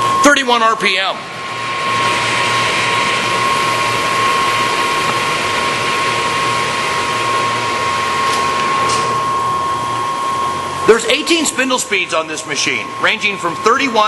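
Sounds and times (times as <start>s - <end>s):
high whine: 0.0s - 14.0s
lathe running: 1.0s - 14.0s.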